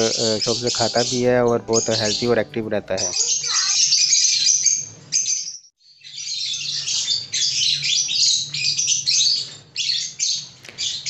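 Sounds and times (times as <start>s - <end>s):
birds chattering and chirping: 0.0s - 11.0s.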